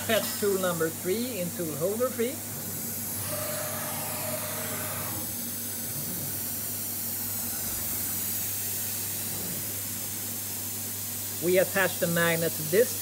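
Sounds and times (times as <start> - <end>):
workshop hiss: 0.0 - 13.0.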